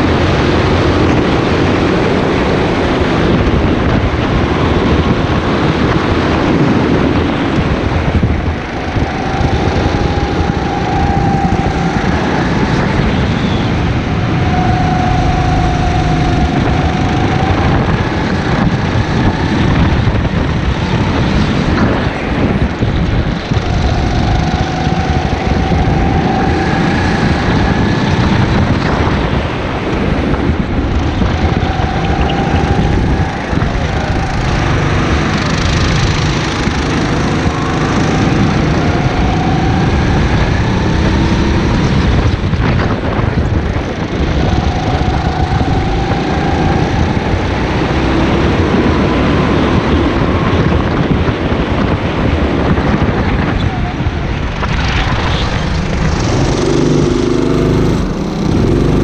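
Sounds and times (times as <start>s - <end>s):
constant rushing noise: 0.0s - 59.0s
go-kart engine revving: 0.0s - 59.0s.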